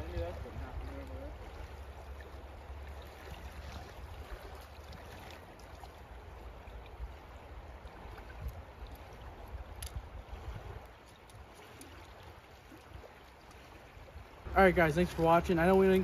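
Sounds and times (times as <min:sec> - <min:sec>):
river water running: 0:00.0 - 0:16.0.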